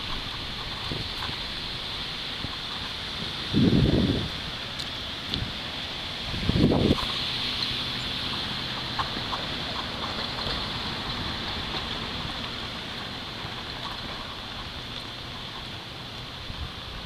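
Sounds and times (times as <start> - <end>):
fountain water spraying: 0.0 - 17.0.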